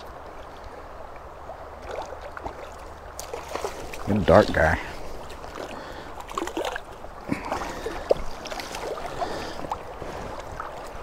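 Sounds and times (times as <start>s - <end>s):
steady river flow: 0.0s - 11.0s
water splashing and gurgling: 0.0s - 11.0s.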